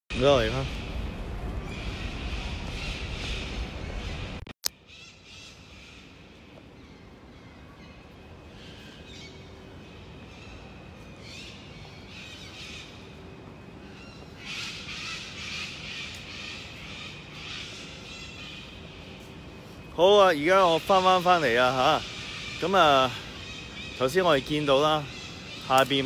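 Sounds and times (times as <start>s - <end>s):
outdoor ambience: 0.1s - 26.0s.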